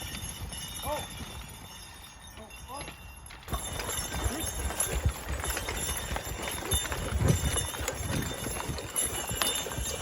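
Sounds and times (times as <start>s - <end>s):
horse hooves plodding: 0.0s - 10.0s.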